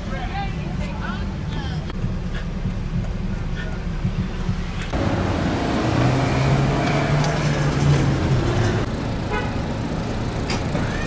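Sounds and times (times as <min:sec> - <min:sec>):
city street traffic: 0:00.0 - 0:11.0
vehicle engine drone: 0:00.0 - 0:11.0.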